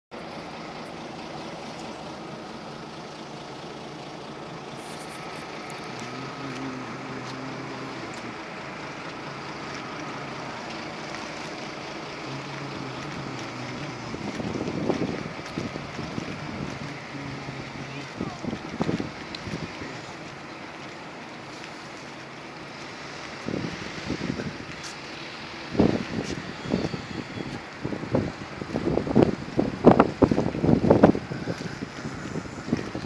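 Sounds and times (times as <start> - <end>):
car engines idling and passing: 0.1 - 33.0.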